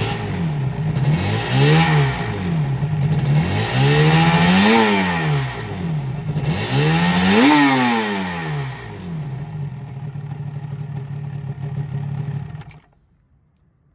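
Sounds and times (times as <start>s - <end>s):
motorcycle engine revving and idling: 0.0s - 13.0s.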